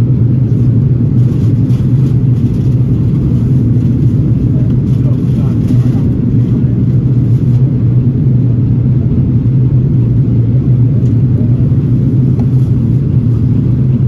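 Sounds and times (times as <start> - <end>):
airflow over fuselage: 0.0 - 14.0
jet engine drone: 0.0 - 14.0.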